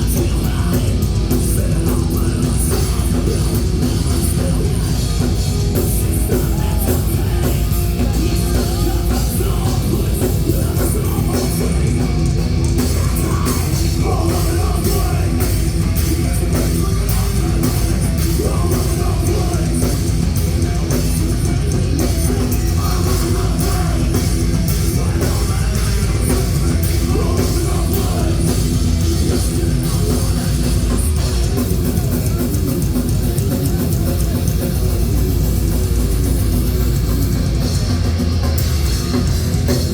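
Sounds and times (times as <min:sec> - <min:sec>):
person singing: 0:00.0 - 0:32.5
heavy metal rock music: 0:00.0 - 0:39.9.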